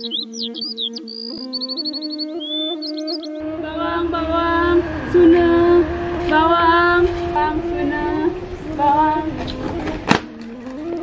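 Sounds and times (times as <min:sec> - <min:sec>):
held drone: 0:00.0 - 0:11.0
woman singing: 0:00.0 - 0:11.0.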